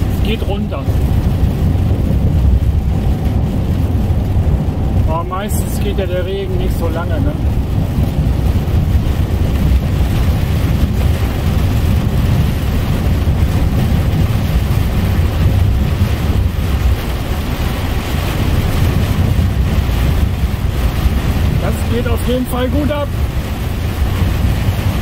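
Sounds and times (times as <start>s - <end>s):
rain hissing on cab: 0.0s - 25.0s
truck engine and road drone: 0.0s - 25.0s.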